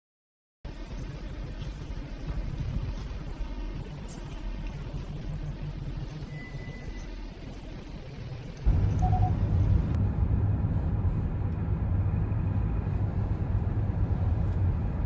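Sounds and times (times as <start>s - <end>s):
vehicle low rumble: 0.7s - 15.0s.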